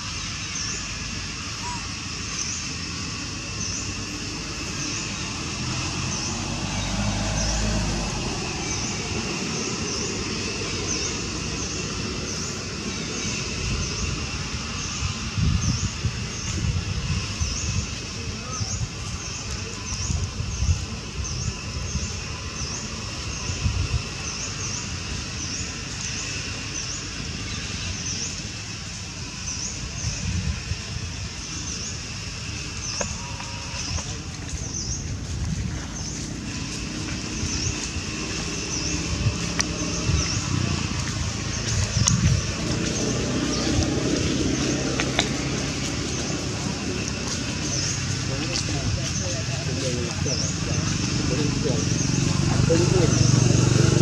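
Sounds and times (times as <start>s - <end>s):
low rumbling surges: 0.0s - 54.0s.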